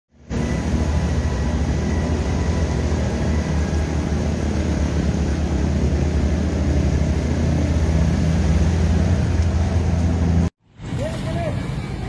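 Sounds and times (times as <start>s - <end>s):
floodwater rushing: 0.2s - 12.0s.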